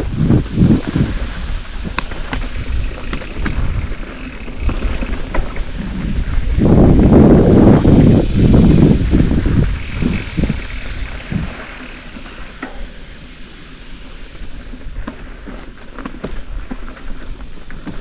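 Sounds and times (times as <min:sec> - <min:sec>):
wind buffeting microphone: 0:00.0 - 0:18.0
bike clicks and rattles: 0:00.1 - 0:18.0
tyre hiss: 0:00.2 - 0:05.3, 0:06.5 - 0:18.0.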